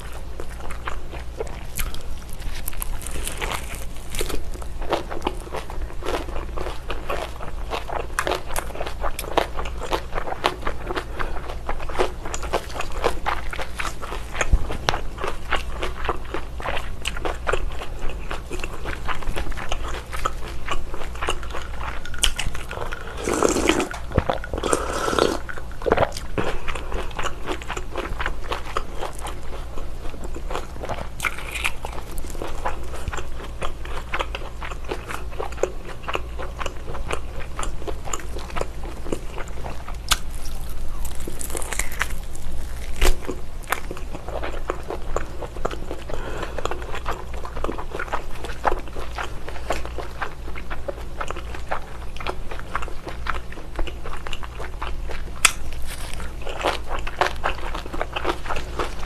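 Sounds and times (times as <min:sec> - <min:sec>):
chewing bacon: 0:00.0 - 0:59.0.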